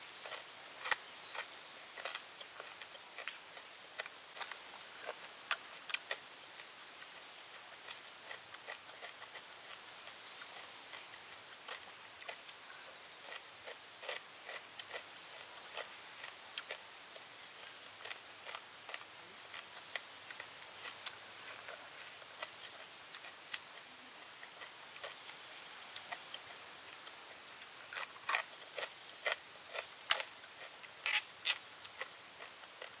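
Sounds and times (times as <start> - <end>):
crunching and chewing: 0.1 - 33.0.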